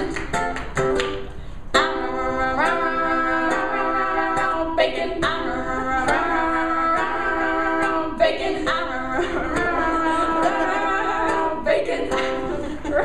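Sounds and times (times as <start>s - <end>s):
voices singing in harmony: 1.8s - 13.0s.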